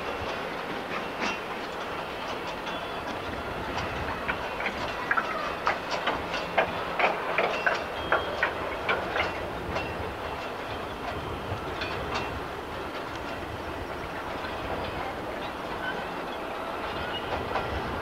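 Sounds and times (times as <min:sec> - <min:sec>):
train rumble: 0:00.0 - 0:18.0
train wheels clattering over rails: 0:00.0 - 0:18.0.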